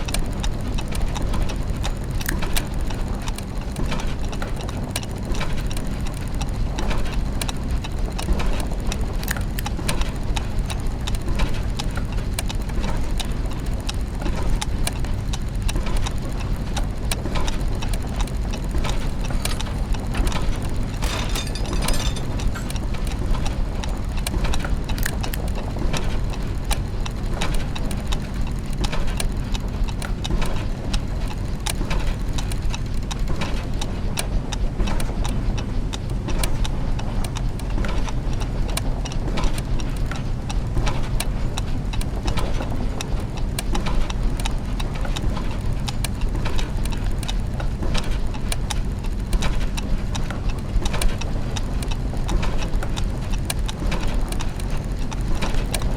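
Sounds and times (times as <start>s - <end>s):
clockwork gears clicking and ticking: 0.0s - 55.9s
low mechanical hum: 0.0s - 55.9s.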